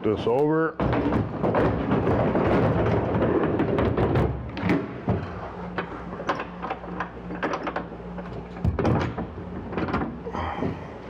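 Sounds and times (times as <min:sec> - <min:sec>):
faint steady hum: 0:00.0 - 0:11.0
hardware clicks and knocks: 0:00.8 - 0:10.9.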